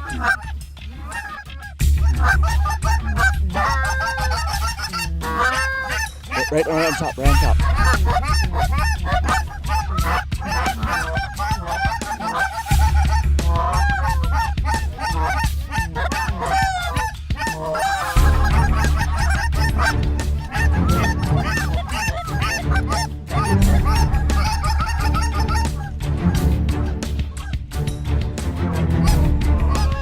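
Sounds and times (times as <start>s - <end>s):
goose calls being blown: 0.0s - 26.4s, 28.7s - 30.0s
geese honking: 0.0s - 27.6s, 28.4s - 30.0s.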